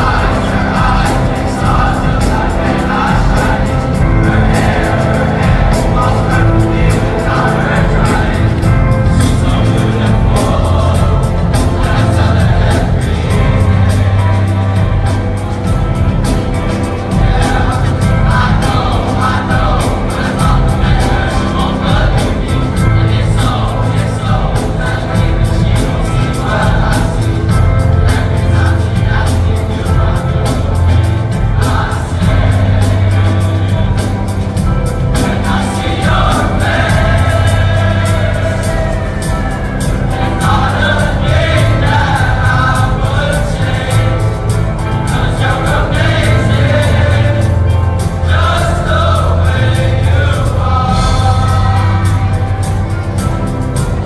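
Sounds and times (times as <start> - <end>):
backing music with steady beat: 0.0 - 54.0
choir singing: 0.0 - 54.0.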